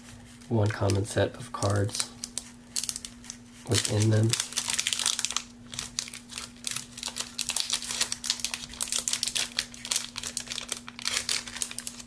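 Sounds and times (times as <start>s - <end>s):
plastic wrapper crinkling: 0.3s - 12.0s.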